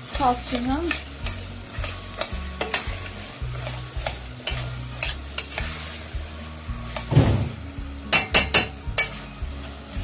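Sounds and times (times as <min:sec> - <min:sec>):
metal spoon scraping a pot: 0:00.0 - 0:06.2, 0:08.1 - 0:10.0
food sizzling: 0:00.0 - 0:10.0.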